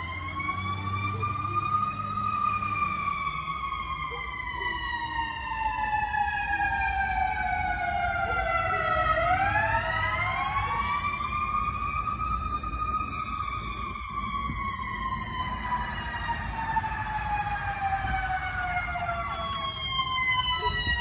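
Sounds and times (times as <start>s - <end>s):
fire engine siren: 0.0s - 21.0s.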